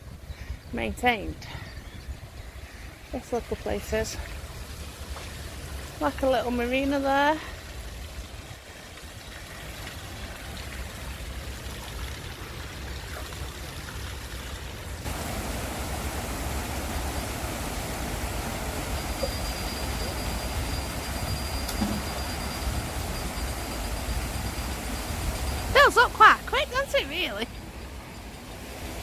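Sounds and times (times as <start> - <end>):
water rushing into lock: 2.7 - 29.0.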